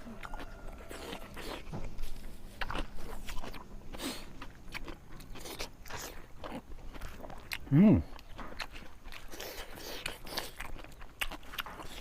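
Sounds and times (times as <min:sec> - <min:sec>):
wet chewing and lip smacks: 0:00.0 - 0:12.0.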